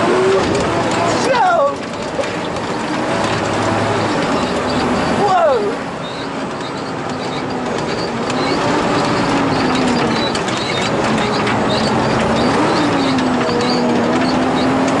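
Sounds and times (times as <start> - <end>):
cab and roll cage rattling: 0.0 - 15.0
truck engine running under load: 0.0 - 15.0.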